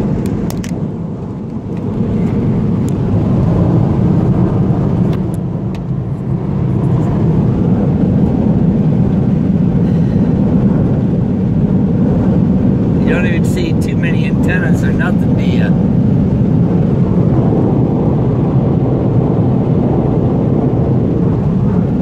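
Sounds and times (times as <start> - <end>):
road and engine rumble in vehicle: 0.0 - 22.0.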